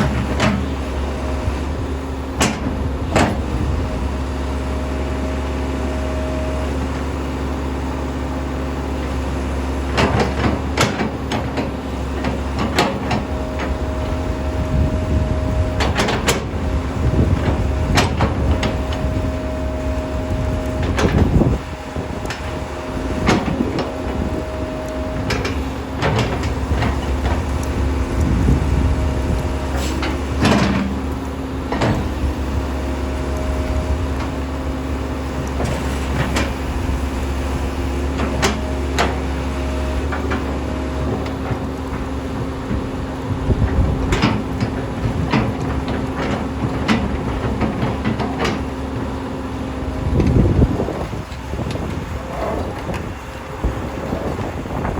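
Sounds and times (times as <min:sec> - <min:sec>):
excavator engine hum: 0:00.0 - 0:54.9.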